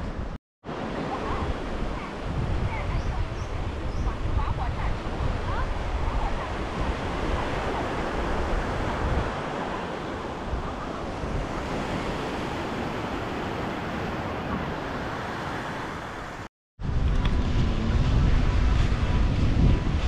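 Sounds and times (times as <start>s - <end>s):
wind rumbling on microphone: 0.0s - 20.0s
surf washing onto beach: 0.7s - 20.0s.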